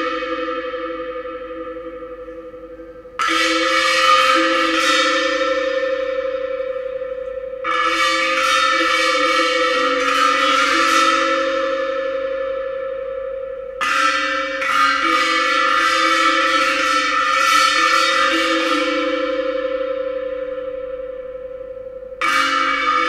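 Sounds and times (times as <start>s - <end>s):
kettle gongs struck with mallets: 0.0s - 23.0s
steady held tone: 0.0s - 23.0s.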